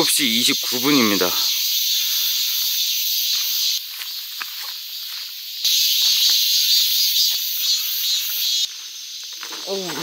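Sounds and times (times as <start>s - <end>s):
insect chorus: 0.0s - 10.0s
footsteps on dirt trail: 0.5s - 10.0s.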